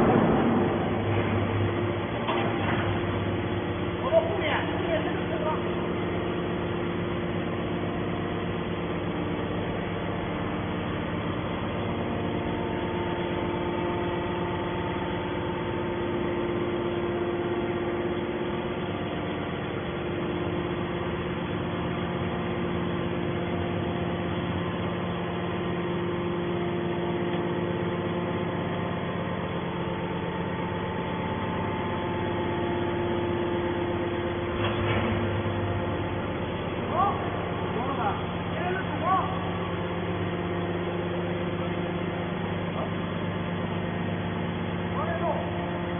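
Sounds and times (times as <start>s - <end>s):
scrap baler machine hum: 0.0s - 45.9s.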